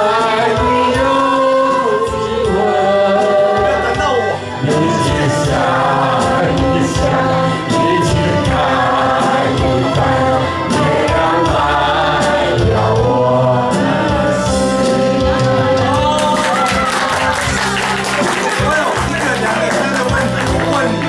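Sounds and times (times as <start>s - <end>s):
voices singing with accompaniment: 0.0s - 21.0s.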